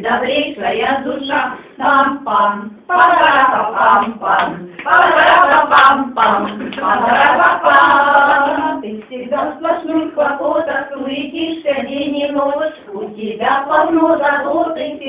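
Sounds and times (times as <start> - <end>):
women singing unaccompanied: 0.0 - 15.0.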